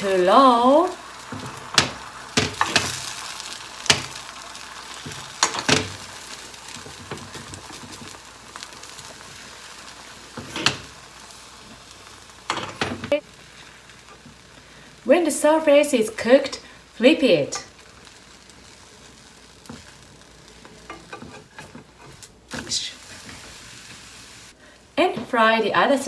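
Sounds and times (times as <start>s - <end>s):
omelette sizzling in frying pan: 0.0s - 26.0s.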